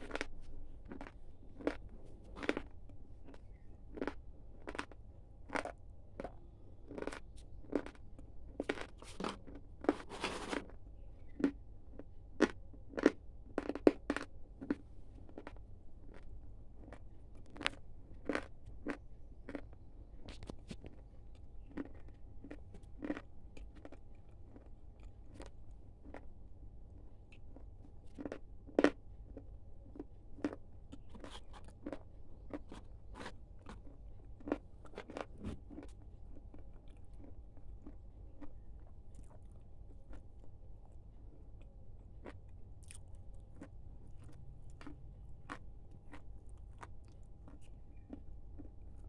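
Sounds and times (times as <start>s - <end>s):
faint steady hum: 0.0s - 49.0s
person chewing crunchy snack: 0.0s - 49.0s.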